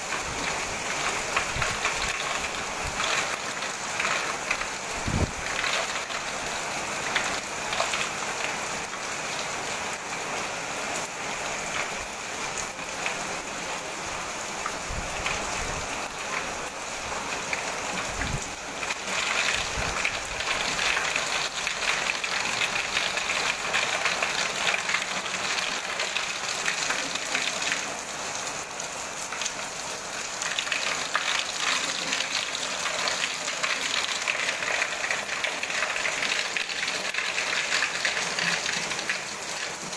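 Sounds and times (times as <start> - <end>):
rain and hail pelting: 0.0 - 39.9.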